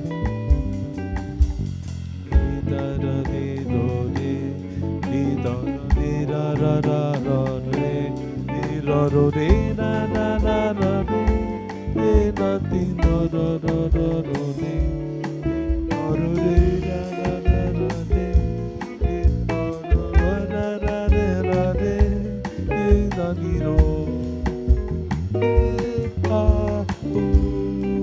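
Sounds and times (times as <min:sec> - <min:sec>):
bass: 0:00.0 - 0:28.0
drum kit: 0:00.0 - 0:28.0
guitar: 0:00.0 - 0:28.0.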